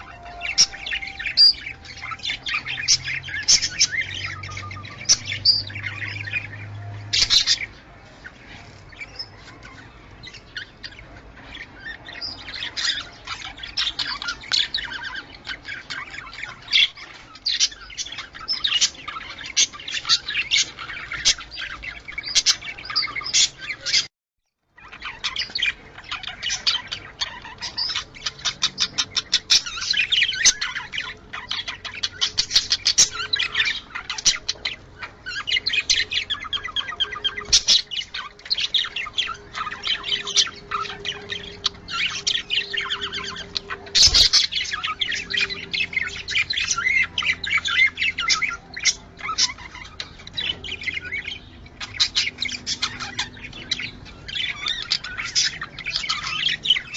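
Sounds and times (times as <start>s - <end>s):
budgerigars chattering and warbling: 0.0s - 24.1s, 24.8s - 56.9s.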